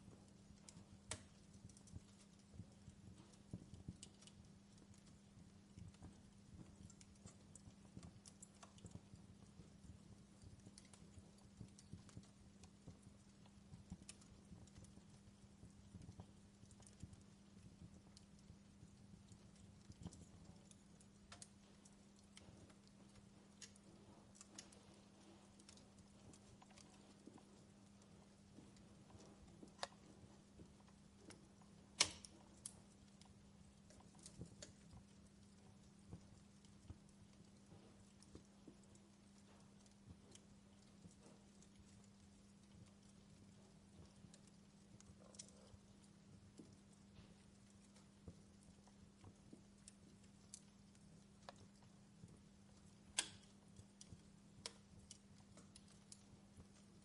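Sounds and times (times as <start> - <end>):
fireplace crackling: 0.0 - 57.0
low steady hum: 0.0 - 57.0.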